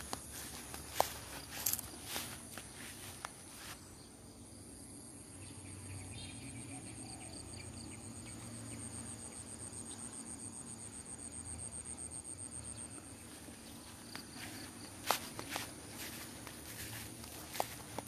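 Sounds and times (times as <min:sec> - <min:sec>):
cricket chirping trill: 0:00.0 - 0:18.0.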